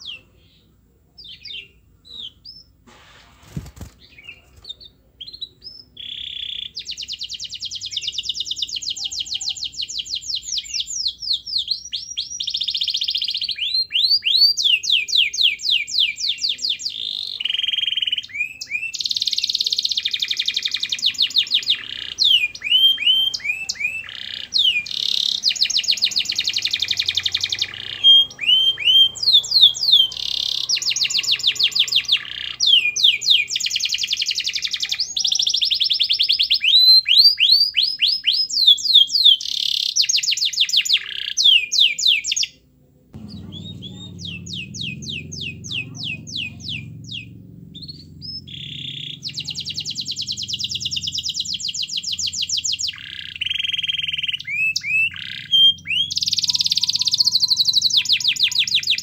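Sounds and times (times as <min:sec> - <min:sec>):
canary singing trills: 0:03.4 - 0:42.6, 0:43.2 - 0:59.0.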